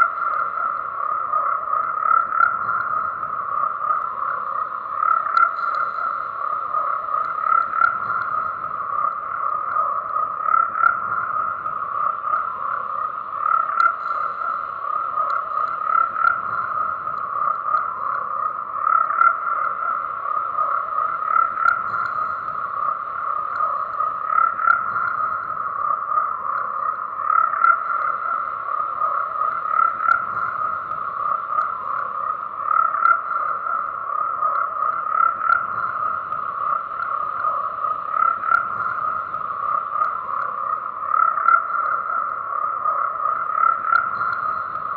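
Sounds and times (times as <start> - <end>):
frogs croaking: 0.0 - 44.9.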